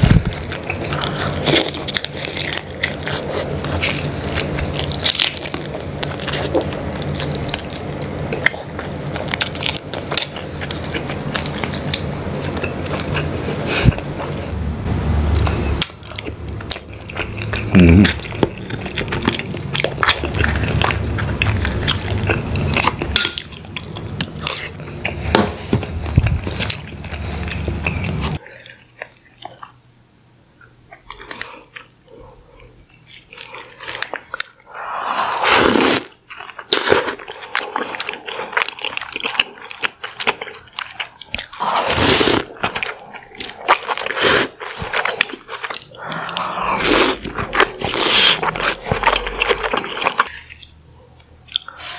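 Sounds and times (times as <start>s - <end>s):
wet chewing and smacking: 0.0s - 14.6s, 15.4s - 30.0s, 30.6s - 34.7s, 35.9s - 51.9s.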